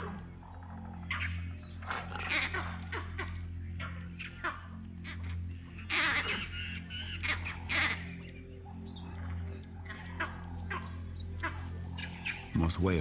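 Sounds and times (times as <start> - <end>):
monkey alarm barks: 0.0 - 12.6.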